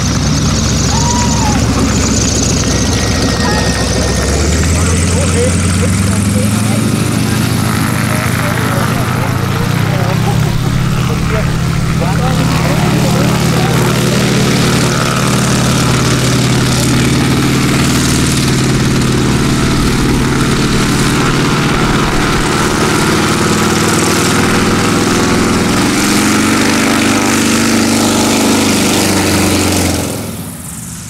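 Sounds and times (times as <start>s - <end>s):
aircraft propeller engine running: 0.0s - 31.0s.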